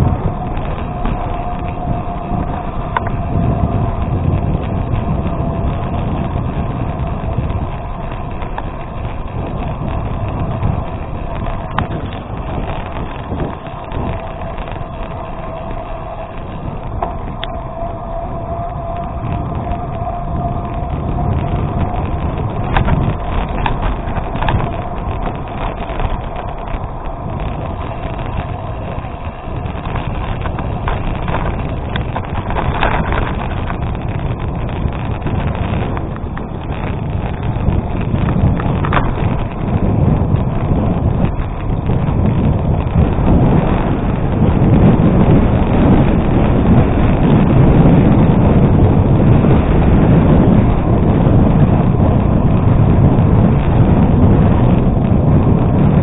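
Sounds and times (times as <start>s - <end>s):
bike clicks and rattles: 0.0s - 56.0s
bike tyres rolling on gravel: 0.0s - 56.0s.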